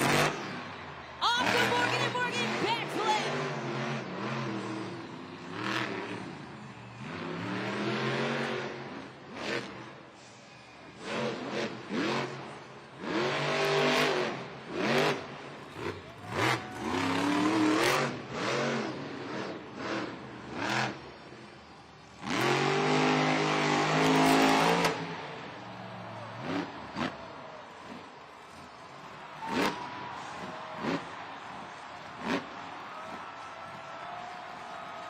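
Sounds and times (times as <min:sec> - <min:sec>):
truck engine revving: 0:00.0 - 0:00.8, 0:01.4 - 0:10.0, 0:10.8 - 0:25.6, 0:26.2 - 0:32.8.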